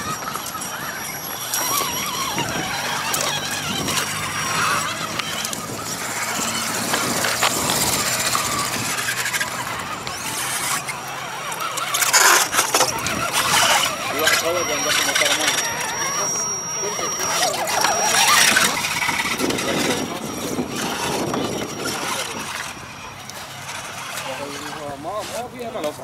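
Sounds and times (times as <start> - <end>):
electric motor and gears whining: 0.0 - 26.0.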